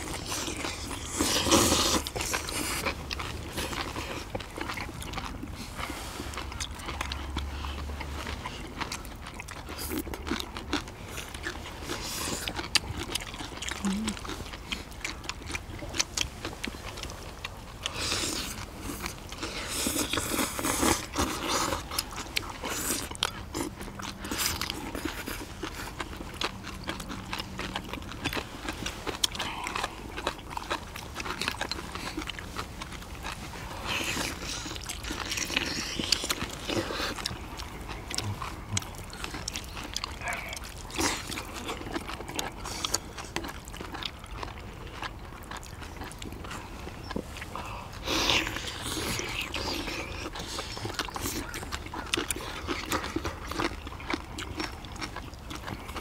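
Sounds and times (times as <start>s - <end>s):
close chewing of food: 0.0s - 56.0s.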